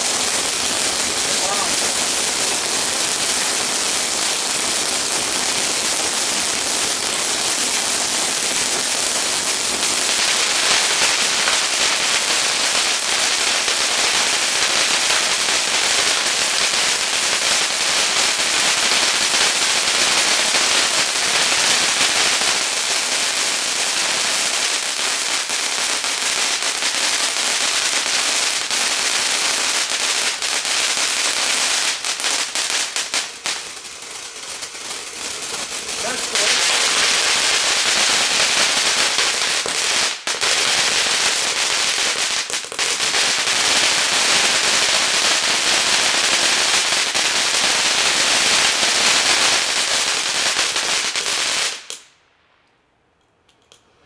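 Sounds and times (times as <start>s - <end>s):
fireworks crackling and fizzing: 0.0s - 52.7s.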